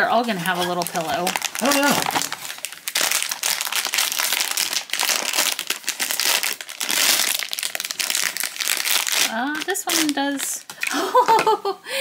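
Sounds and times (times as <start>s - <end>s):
foil bag crinkling: 0.0s - 11.4s.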